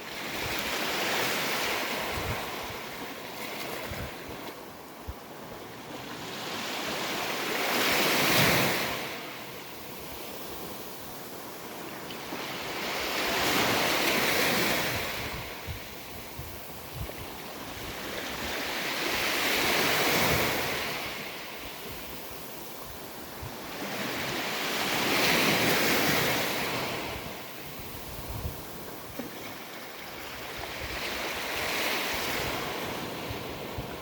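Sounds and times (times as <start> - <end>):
sea waves breaking on beach: 0.0 - 34.0.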